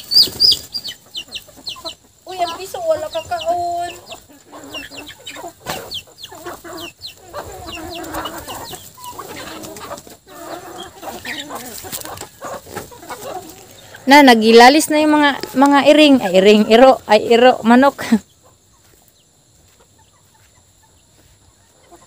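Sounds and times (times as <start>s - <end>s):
chickens clucking: 0.0s - 22.0s
high peeping calls: 0.0s - 22.0s.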